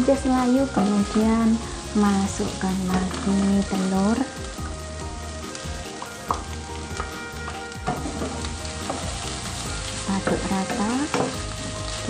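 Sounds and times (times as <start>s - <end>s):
food sizzling in a wok: 0.0s - 12.0s
spatula scraping wok: 0.0s - 12.0s.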